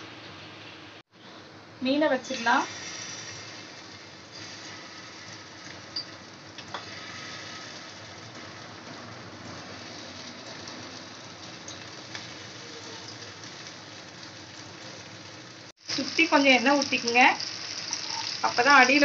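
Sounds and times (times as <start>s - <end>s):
fish sizzling in hot oil: 2.1s - 19.0s.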